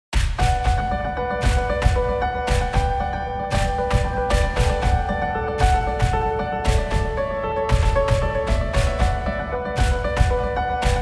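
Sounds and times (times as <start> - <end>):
background music with heavy drums: 0.2 - 11.0.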